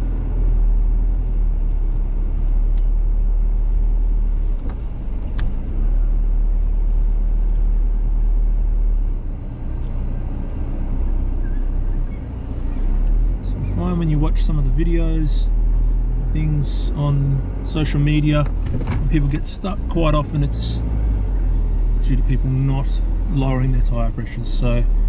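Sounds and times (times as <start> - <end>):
vehicle engine and tyres rumbling: 0.0 - 25.0.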